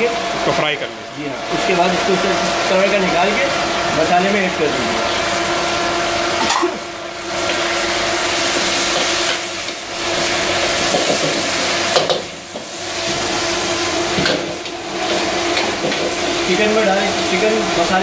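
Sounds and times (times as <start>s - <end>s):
chicken sizzling in a wok: 1.4s - 18.0s.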